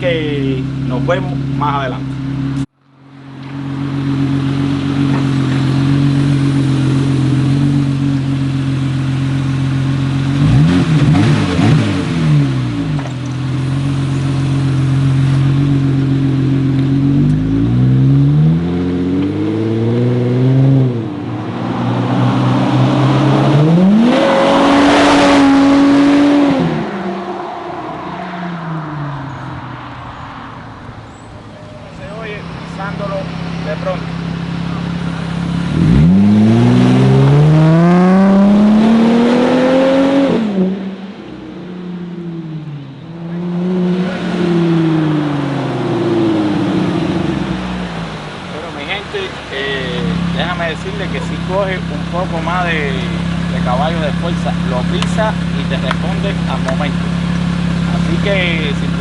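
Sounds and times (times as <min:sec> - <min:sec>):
car engine revving open exhaust: 0:00.0 - 0:59.0.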